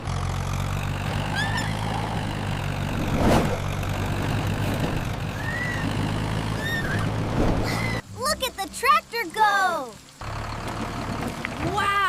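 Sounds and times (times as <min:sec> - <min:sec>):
cartoon tractor engine humming: 0:00.0 - 0:12.0.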